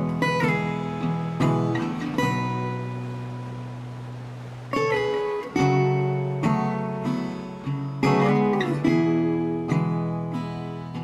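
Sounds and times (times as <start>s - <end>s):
strummed acoustic guitar chords: 0.0s - 11.0s.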